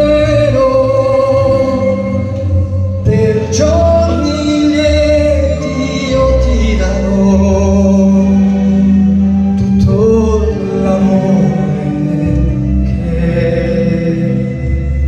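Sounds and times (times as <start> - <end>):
man singing into a microphone: 0.0 - 15.0
music: 0.0 - 15.0.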